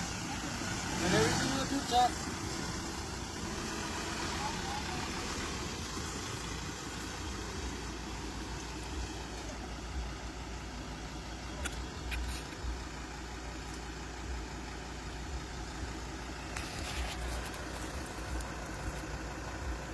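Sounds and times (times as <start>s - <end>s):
vehicle engine low rumble: 0.0s - 19.9s.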